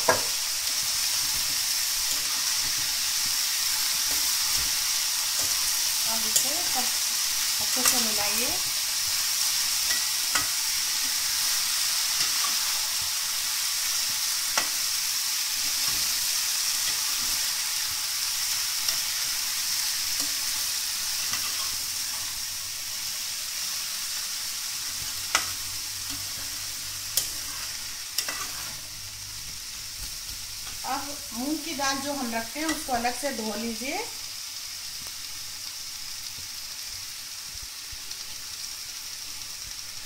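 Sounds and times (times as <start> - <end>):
food sizzling in oil: 0.0 - 40.0.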